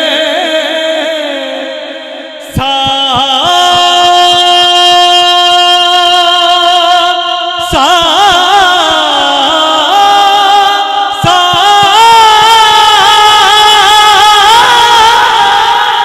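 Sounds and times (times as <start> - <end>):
person singing unaccompanied: 0.0 - 16.0.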